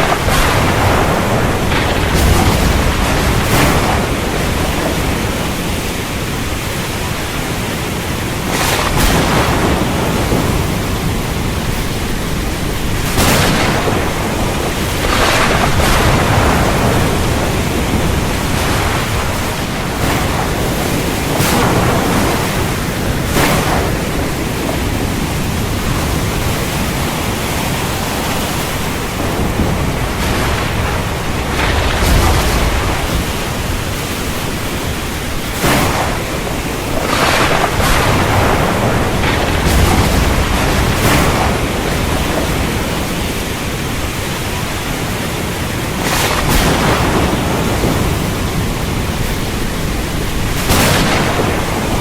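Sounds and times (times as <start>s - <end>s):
sharp thunder cracks: 0.0s - 44.8s, 45.6s - 52.0s
heavy rain rushing: 0.0s - 52.0s
thunder rumbling: 0.0s - 52.0s.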